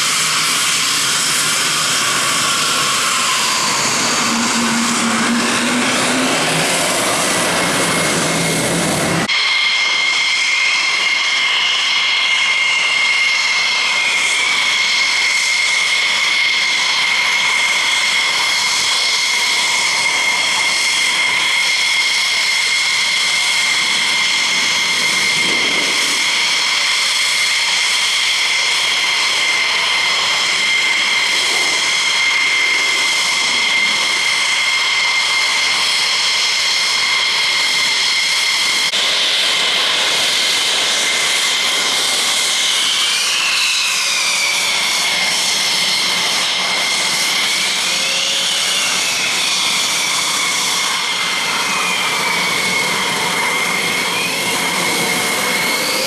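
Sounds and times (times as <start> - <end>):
jet engine high whine: 0.0 - 56.0.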